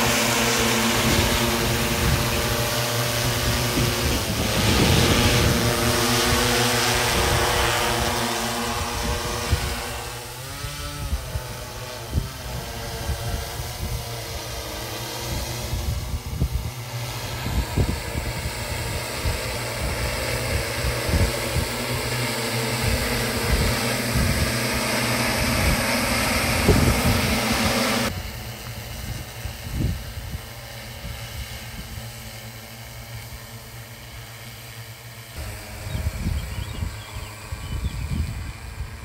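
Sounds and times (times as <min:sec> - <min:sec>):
wind buffeting microphone: 0:00.0 - 0:32.1, 0:35.4 - 0:39.0
drone propellers humming: 0:00.0 - 0:39.0.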